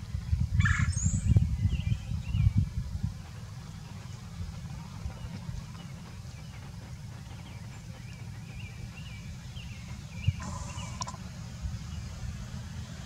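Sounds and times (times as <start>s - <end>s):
steady low rumble: 0.0s - 13.0s
bird chirping: 0.6s - 11.2s.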